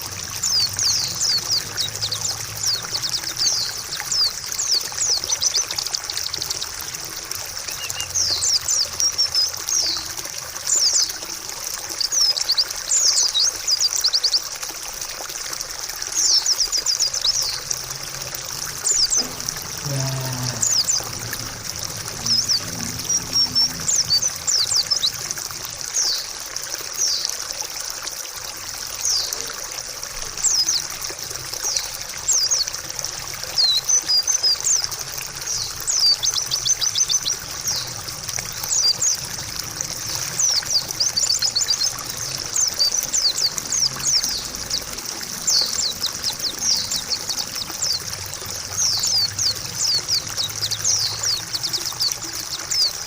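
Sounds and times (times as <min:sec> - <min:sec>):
bird chirping and twittering: 0:00.0 - 0:06.8, 0:07.6 - 0:11.2, 0:11.9 - 0:14.4, 0:16.2 - 0:25.3, 0:25.9 - 0:26.3, 0:30.4 - 0:30.9, 0:31.6 - 0:32.8, 0:33.4 - 0:53.0
trickling water: 0:00.0 - 0:53.0.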